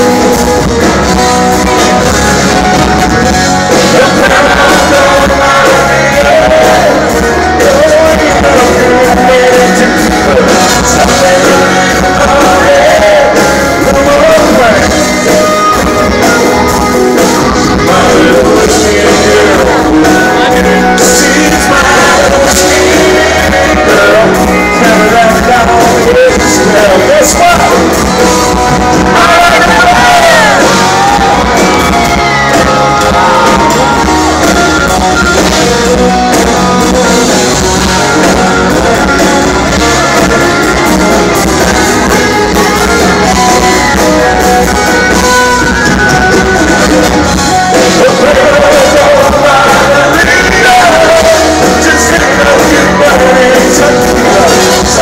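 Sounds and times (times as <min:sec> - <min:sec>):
acoustic guitar: 0:00.0 - 0:55.0
country-rock band playing: 0:00.0 - 0:55.0
man singing: 0:00.0 - 0:55.0.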